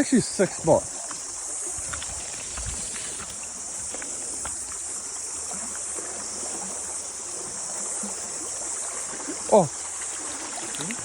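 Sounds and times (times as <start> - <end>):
cicadas chorus: 0.0 - 11.0.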